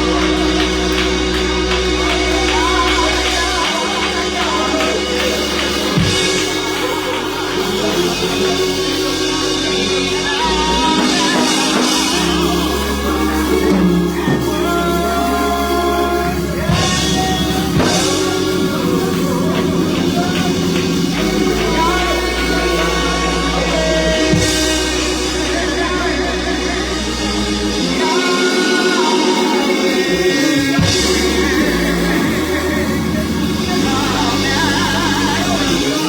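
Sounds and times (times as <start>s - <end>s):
bass line: 0.0s - 36.0s
drum kit: 0.0s - 36.0s
gospel church band: 0.0s - 36.0s
singing: 0.0s - 36.0s.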